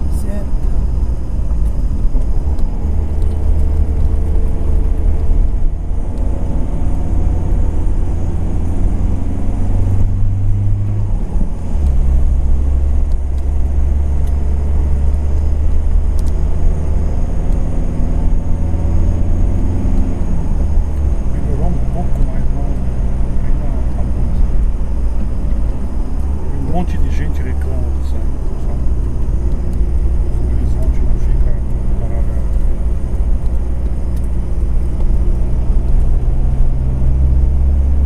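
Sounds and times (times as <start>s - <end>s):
car engine: 0.0s - 38.0s
road rumble: 0.0s - 38.0s.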